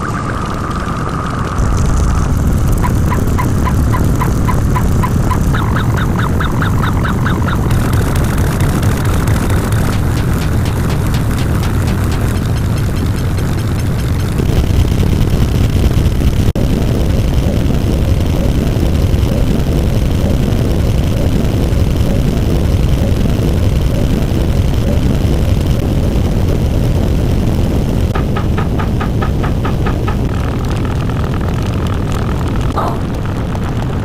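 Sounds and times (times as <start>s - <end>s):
loud steady low rumble: 0.0s - 34.0s.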